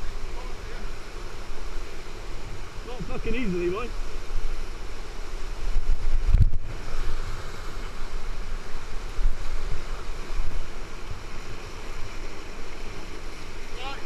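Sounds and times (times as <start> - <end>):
rapids rushing over rocks: 0.0 - 14.0
wind buffeting microphone: 1.4 - 13.7.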